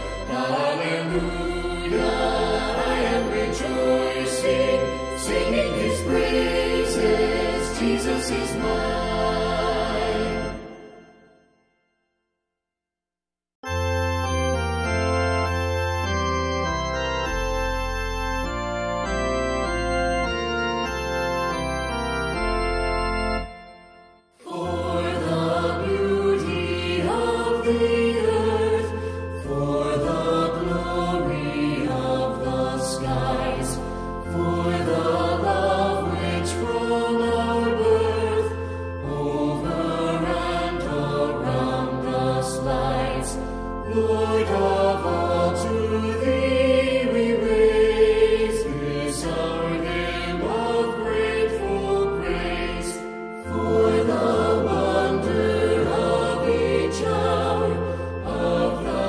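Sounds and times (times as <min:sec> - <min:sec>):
organ playing hymn chords: 0:00.0 - 0:11.4, 0:13.6 - 0:59.0
fuller music piece: 0:00.0 - 0:11.9, 0:13.6 - 0:59.0.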